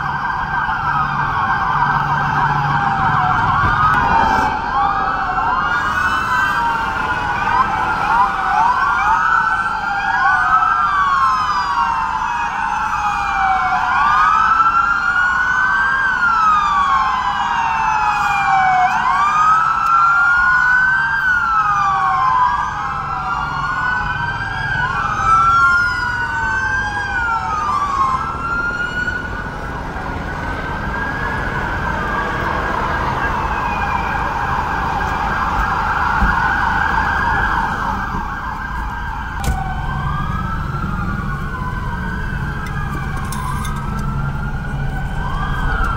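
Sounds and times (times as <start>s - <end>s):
emergency sirens wailing: 0.0s - 45.9s.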